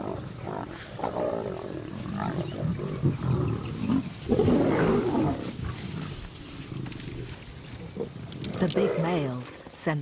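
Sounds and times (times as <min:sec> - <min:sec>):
lions growling and snarling: 0:00.0 - 0:09.6.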